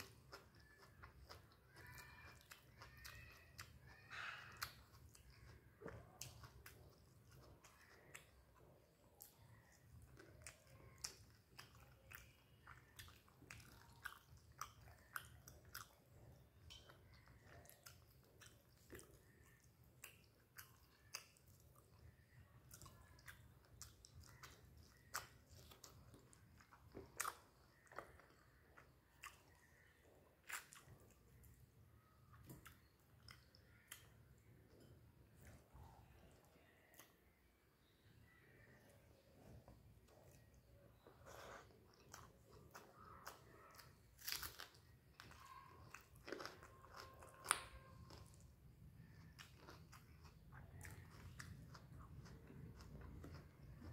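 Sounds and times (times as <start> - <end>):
chewing and lip smacking: 0.0 - 53.9.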